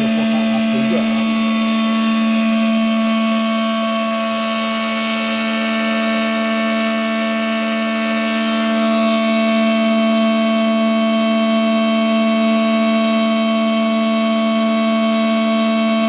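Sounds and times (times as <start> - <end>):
welding machine hum with tones: 0.0 - 16.0.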